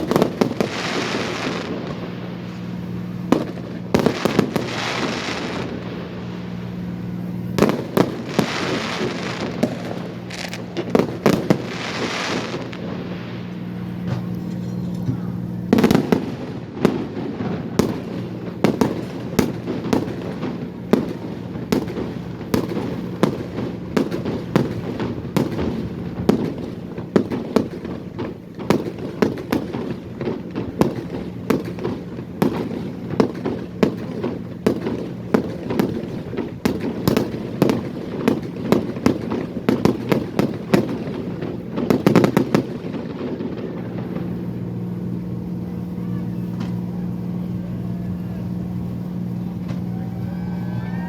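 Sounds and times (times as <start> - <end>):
fireworks bangs and crackles: 0.0 - 51.0
steady low hum: 0.0 - 51.0.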